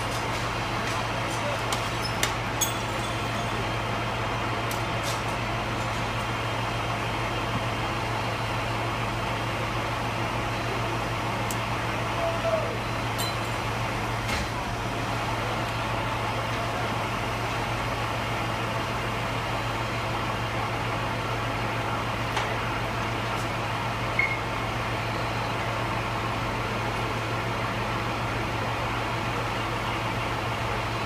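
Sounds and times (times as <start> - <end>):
fire engine droning: 0.0 - 31.0.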